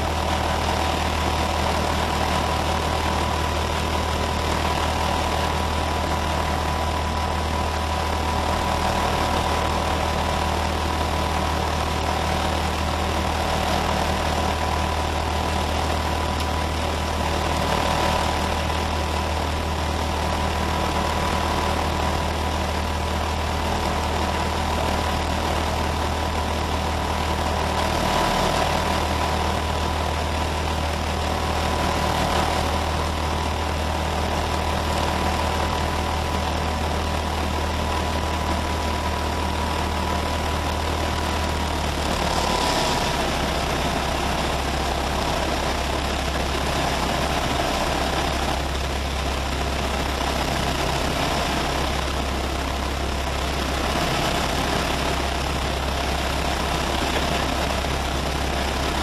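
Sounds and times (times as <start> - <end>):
propeller engine droning: 0.0 - 59.0.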